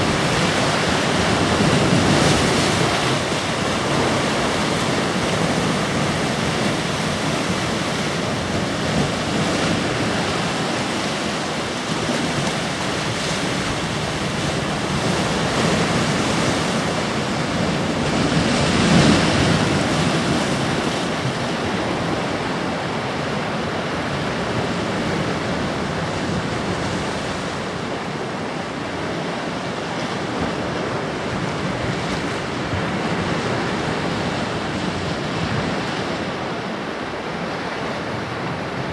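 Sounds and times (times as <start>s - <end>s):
sea waves breaking on rocks: 0.0s - 38.9s.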